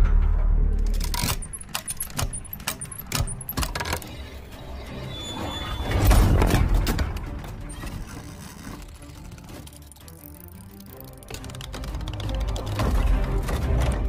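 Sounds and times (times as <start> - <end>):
sharp metallic clicks and clanks: 0.7 - 4.4, 5.9 - 14.0.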